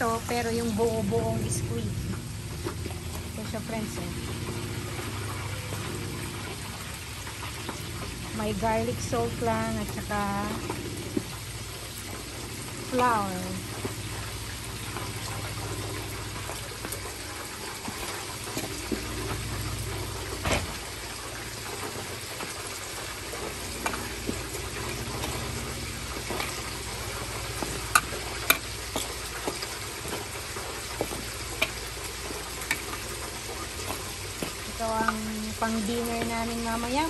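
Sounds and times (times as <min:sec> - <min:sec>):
deep frying sizzle: 0:00.0 - 0:37.0.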